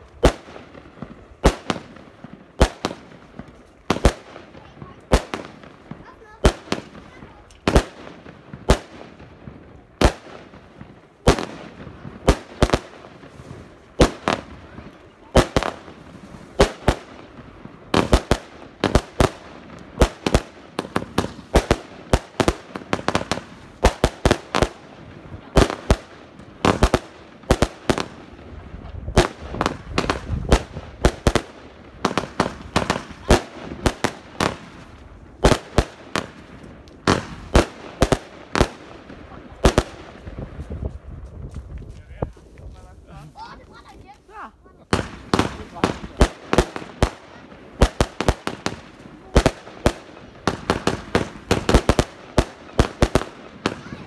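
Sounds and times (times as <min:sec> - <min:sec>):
fireworks banging: 0:00.0 - 0:54.0.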